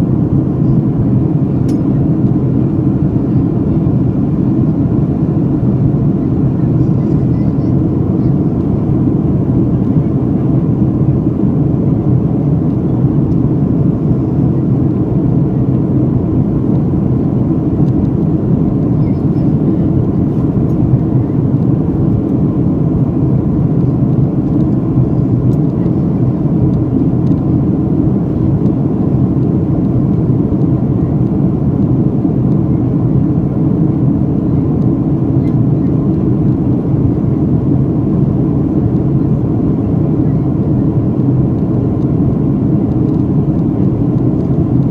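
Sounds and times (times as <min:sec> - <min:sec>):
airliner engines rumbling: 0:00.0 - 0:44.9.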